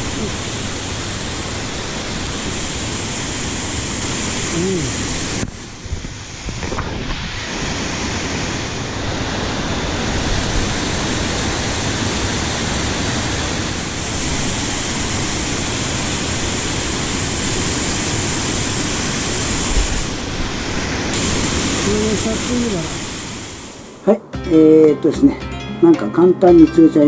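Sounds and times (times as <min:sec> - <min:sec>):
rushing mountain stream: 0:00.0 - 0:23.9.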